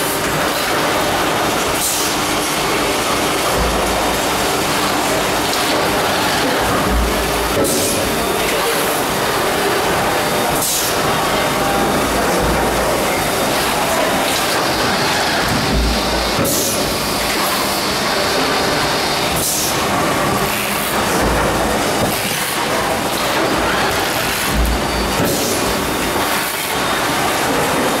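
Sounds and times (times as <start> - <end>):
injection moulding press din: 0.0 - 28.0.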